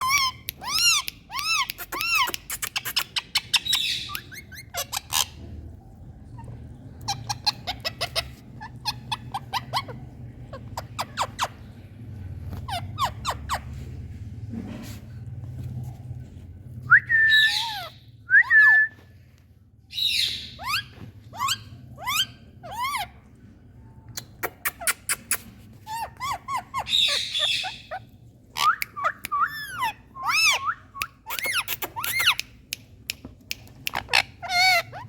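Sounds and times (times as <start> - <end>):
parakeets squawking and whistling: 0.0 - 14.1, 17.2 - 18.8, 19.9 - 23.2, 24.4 - 32.5, 33.6 - 35.0.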